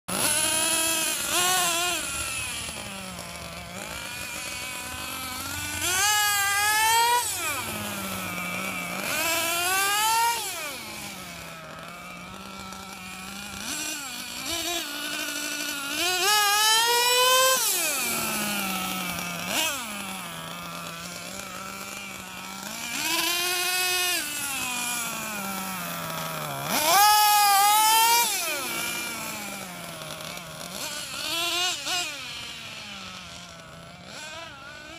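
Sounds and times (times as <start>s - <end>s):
small engine revving and idling: 0.0s - 34.9s.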